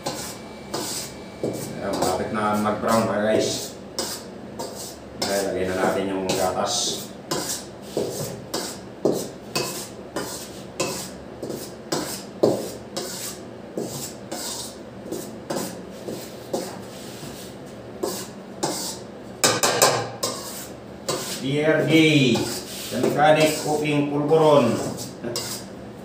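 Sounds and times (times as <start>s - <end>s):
metal spoon scraping pan: 0.0s - 17.3s, 18.0s - 25.7s.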